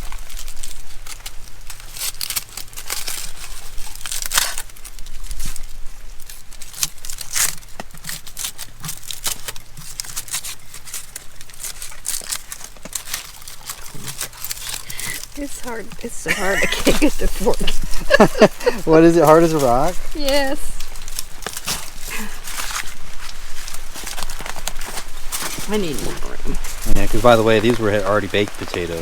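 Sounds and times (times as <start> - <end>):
aluminium foil crinkling and tearing: 0.0 - 29.0.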